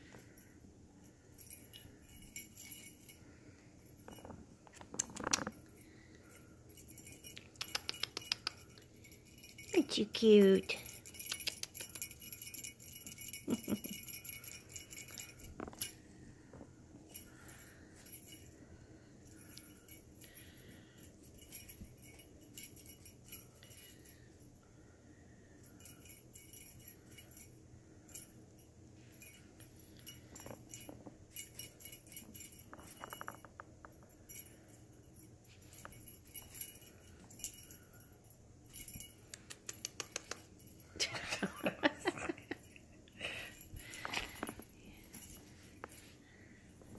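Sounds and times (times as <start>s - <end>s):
cat toy jingling and rattling: 0.1s - 46.9s.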